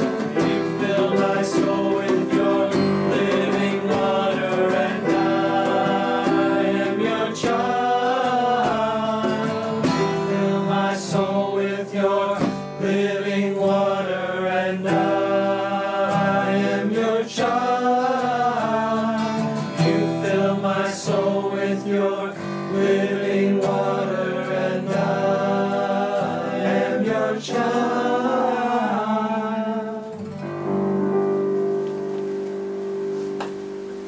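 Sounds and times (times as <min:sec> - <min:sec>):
men singing a hymn: 0:00.0 - 0:30.2
acoustic guitar: 0:00.0 - 0:34.0
digital piano: 0:00.0 - 0:34.0.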